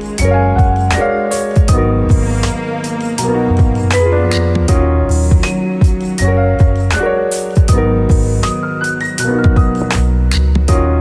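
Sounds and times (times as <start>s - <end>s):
steady drum beat: 0.0s - 8.6s, 9.3s - 10.9s.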